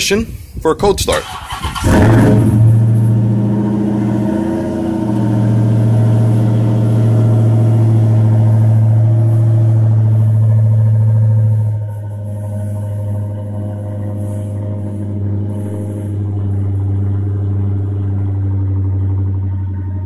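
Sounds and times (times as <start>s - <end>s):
car engine fast idle: 1.2s - 20.0s.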